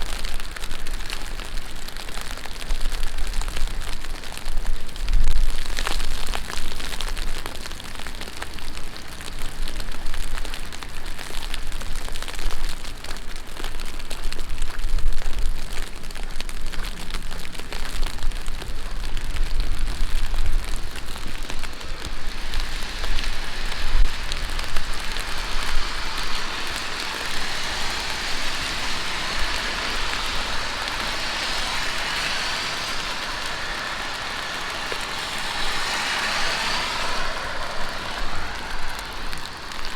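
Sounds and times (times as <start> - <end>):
heavy rain on street: 0.0 - 39.9
steady hiss: 0.0 - 39.9.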